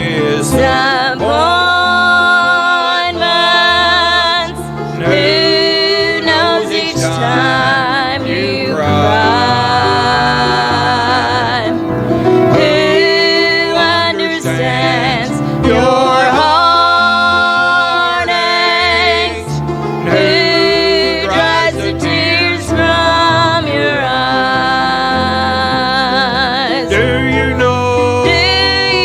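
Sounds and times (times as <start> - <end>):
person singing with vibrato: 0.0 - 29.0
sustained bass notes: 0.0 - 29.0.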